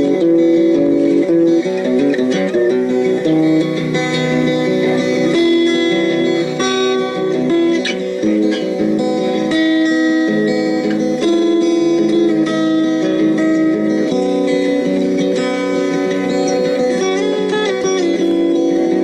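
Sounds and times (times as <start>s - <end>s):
guitar music: 0.0s - 19.0s.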